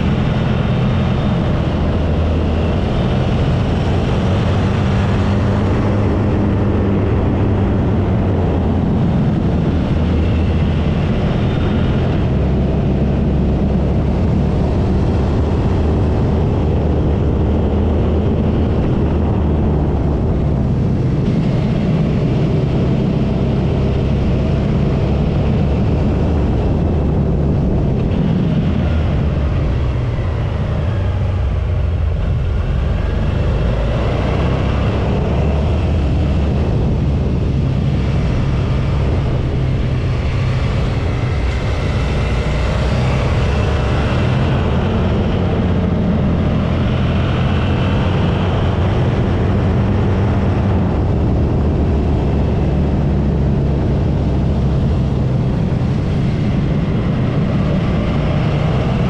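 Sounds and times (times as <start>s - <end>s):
motorcycle engine at speed: 0.0s - 59.0s
wind rushing: 0.0s - 59.0s.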